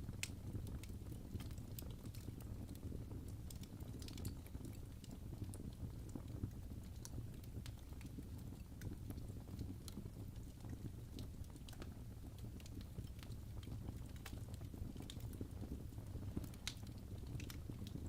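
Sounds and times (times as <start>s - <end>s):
wood fire crackling: 0.0s - 18.0s
sharp pops and snaps: 0.1s - 18.0s.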